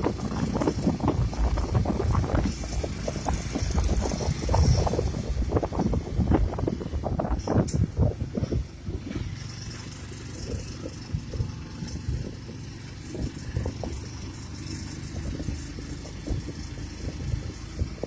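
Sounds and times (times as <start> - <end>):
engine running steadily: 0.0 - 18.0
wind buffeting microphone: 0.0 - 18.0.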